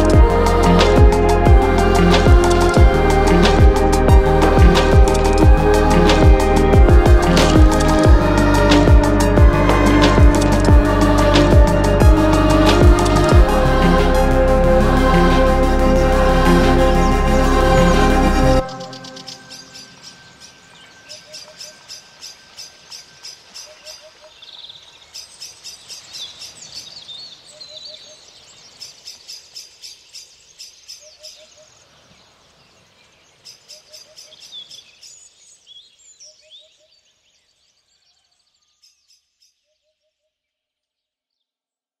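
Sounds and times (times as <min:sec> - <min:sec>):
birds chirping and trilling: 0:00.0 - 0:40.1.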